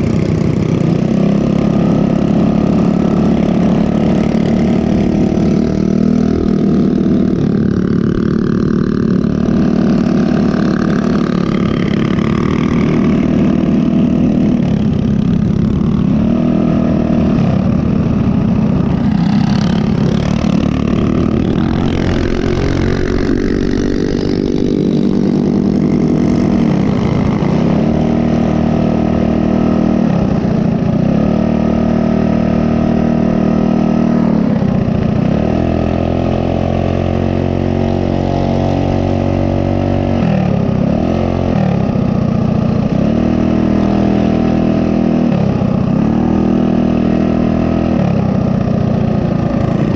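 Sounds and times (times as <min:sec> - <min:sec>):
small motorbike engine revving: 0:00.0 - 0:49.9.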